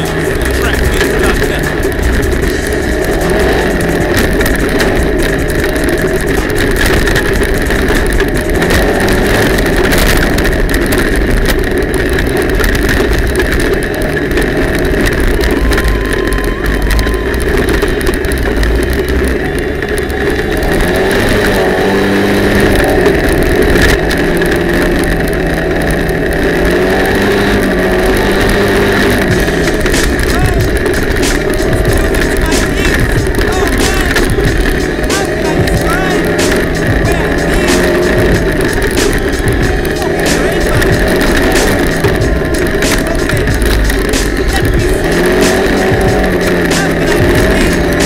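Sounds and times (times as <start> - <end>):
off-road vehicle engine running: 0.0 - 48.0.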